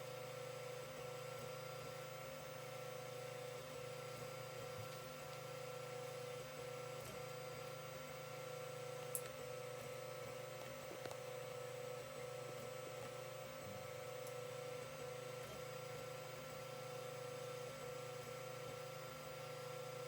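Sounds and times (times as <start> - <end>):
printer fans and motors whining: 0.0 - 20.0.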